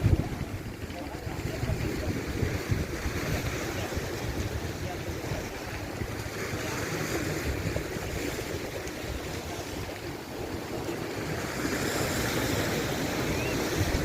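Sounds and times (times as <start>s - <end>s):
sea water washing: 0.0s - 14.0s
wind buffeting microphone: 0.0s - 14.0s.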